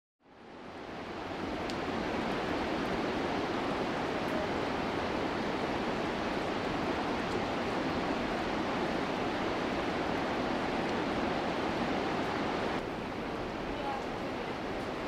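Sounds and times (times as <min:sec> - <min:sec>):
river rushing over rapids: 0:00.4 - 0:15.0.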